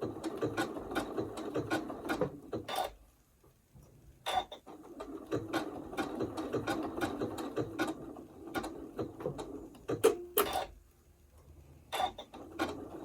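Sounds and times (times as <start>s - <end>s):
sewing machine stitching: 0.0s - 3.0s, 4.3s - 10.8s, 11.9s - 13.0s.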